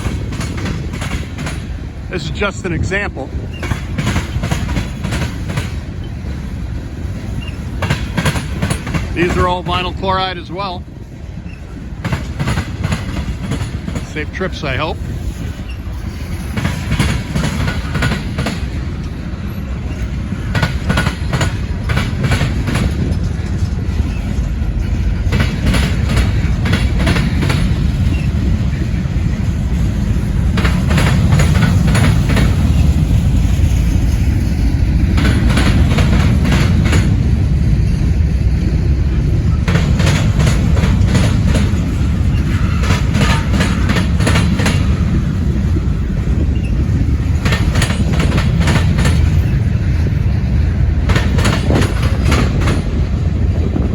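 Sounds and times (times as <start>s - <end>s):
train wheels rumbling on rails: 0.0s - 53.9s
wheels clicking over rail joints: 0.0s - 53.9s.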